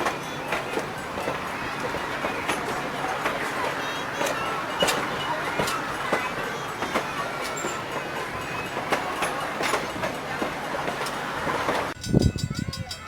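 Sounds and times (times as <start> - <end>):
train rumbling along track: 0.0 - 13.0
wheels clicking over rail joints: 0.0 - 13.0.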